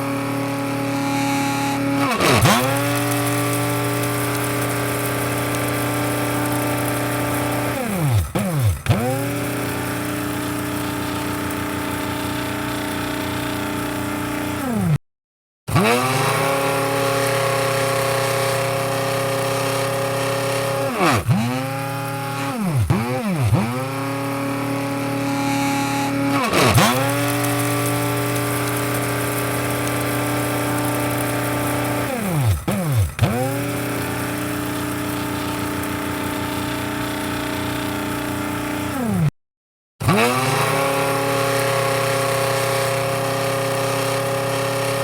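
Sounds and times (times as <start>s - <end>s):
electric coffee grinder whining: 0.0s - 15.0s, 15.7s - 39.3s, 40.0s - 45.0s.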